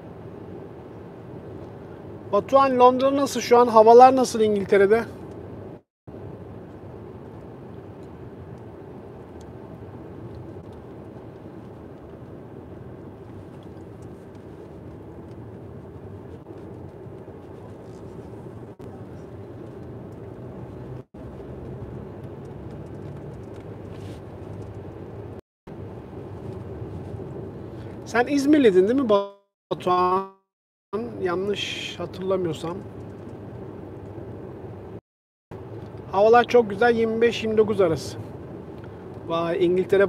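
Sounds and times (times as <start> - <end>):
car interior road and engine hum: 0.0 - 30.2, 31.0 - 35.0, 35.6 - 40.0.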